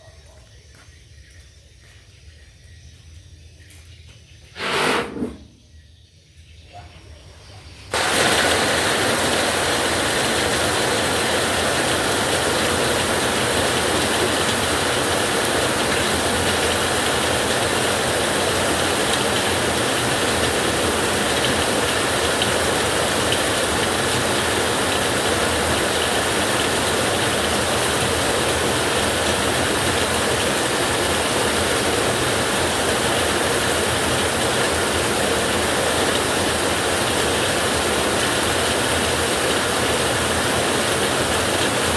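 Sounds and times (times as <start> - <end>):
heavy rain on a tin roof: 7.9 - 41.9.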